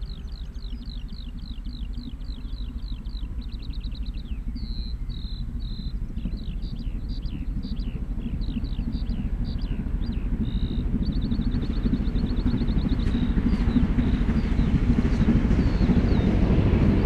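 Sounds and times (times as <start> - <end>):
bird chirping: 0.0 - 16.6
steam locomotive rumble: 0.0 - 17.0.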